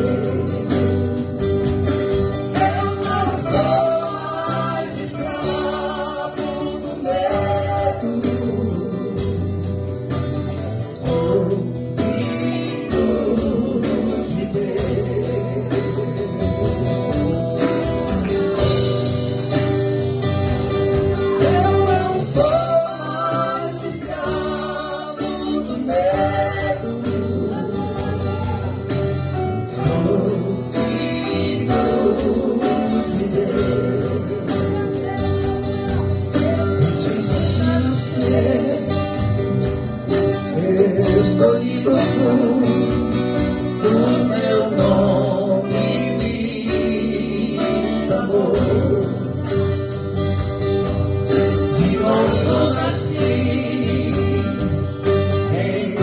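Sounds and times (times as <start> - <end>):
group singing gospel: 0.0 - 56.0
guitar: 0.0 - 56.0
steady drum beat: 0.0 - 56.0.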